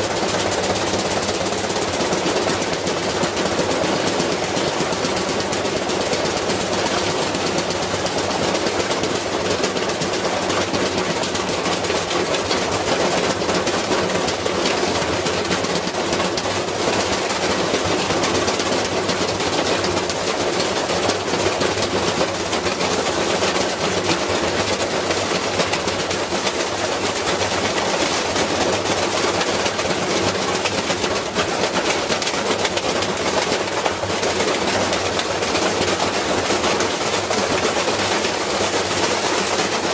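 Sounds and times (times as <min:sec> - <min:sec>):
washing machine hammering and rattling: 0:00.0 - 0:39.9.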